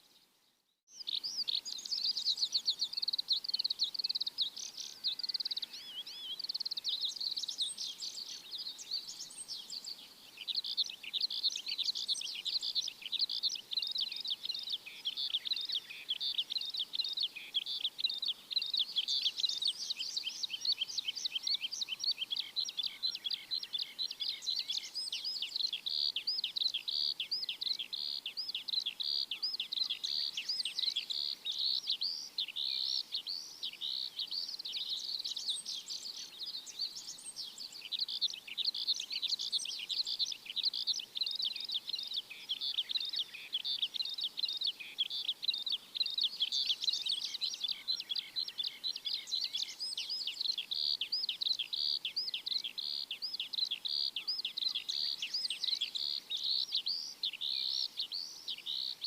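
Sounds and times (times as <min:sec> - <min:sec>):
small birds chirping chorus: 0:00.0 - 0:59.0.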